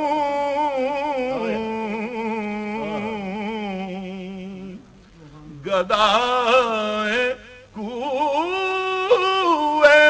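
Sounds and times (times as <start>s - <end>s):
person singing long held notes: 0.0s - 4.8s, 6.1s - 10.0s.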